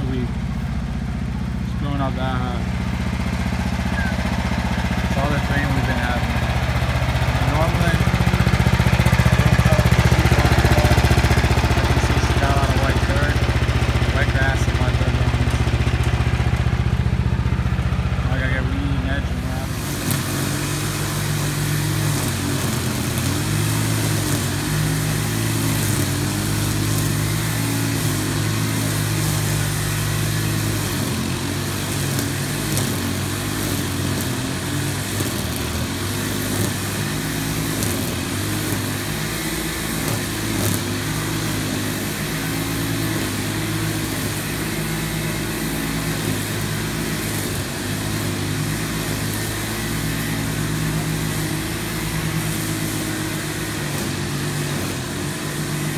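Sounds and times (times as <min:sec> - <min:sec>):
lawn mower running: 0:00.0 - 0:55.9.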